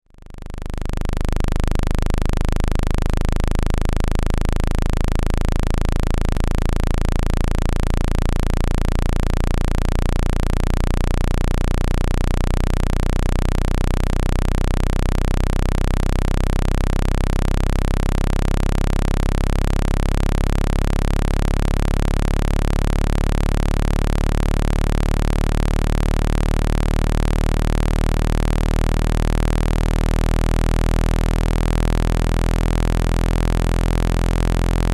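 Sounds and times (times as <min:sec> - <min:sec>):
low synthetic hum tone: 0:00.1 - 0:34.9.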